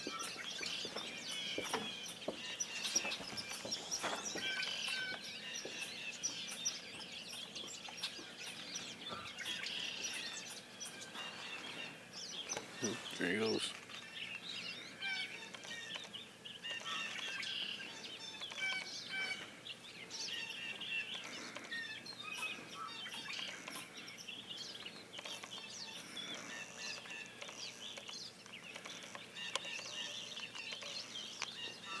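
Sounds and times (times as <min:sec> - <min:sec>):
faint outdoor hiss: 0:00.0 - 0:32.0
songbirds chirping: 0:00.0 - 0:32.0.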